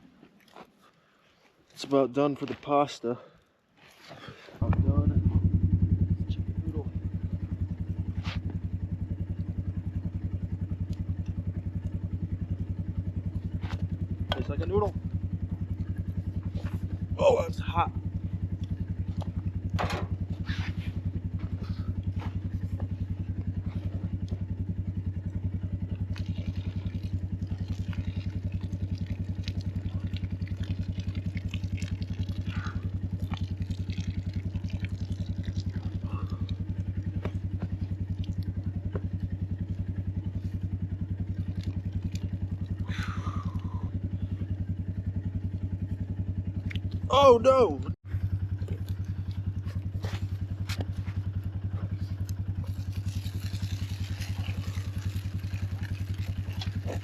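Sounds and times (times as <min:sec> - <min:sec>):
engine idling: 0:04.2 - 0:57.0.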